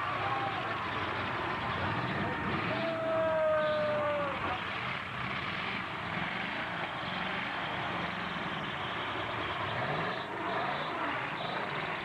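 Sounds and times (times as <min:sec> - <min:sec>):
truck engines running: 0:00.0 - 0:12.0.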